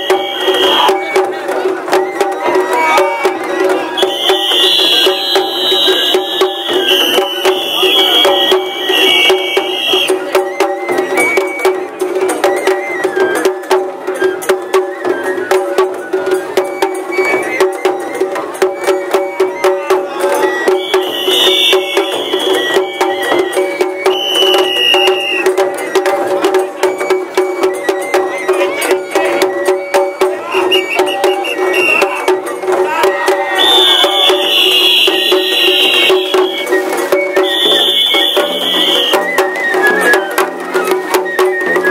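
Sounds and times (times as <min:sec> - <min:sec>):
flute notes: 0:00.0 - 0:41.9
taiko drums beating fast: 0:00.0 - 0:41.9.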